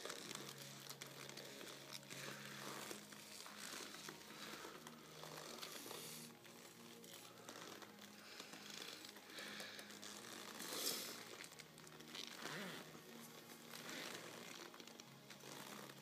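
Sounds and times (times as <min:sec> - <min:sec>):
leather creaking and rustling: 0:00.0 - 0:16.0.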